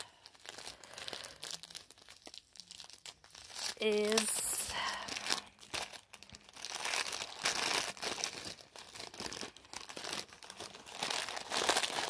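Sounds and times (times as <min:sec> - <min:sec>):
wrapping crinkling and tearing: 0:00.0 - 0:12.0.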